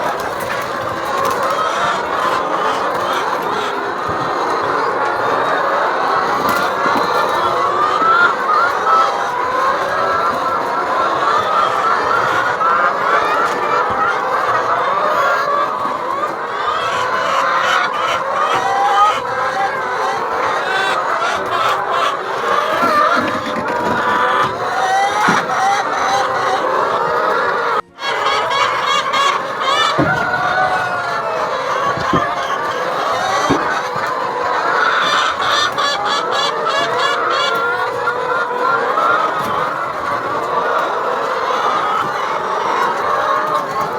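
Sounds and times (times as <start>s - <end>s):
chickens calling: 0.0s - 43.9s.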